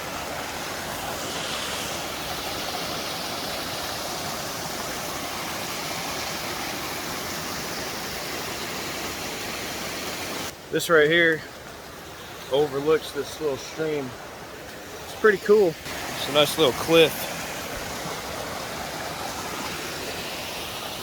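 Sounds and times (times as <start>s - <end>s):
small stream rushing: 0.0s - 21.0s.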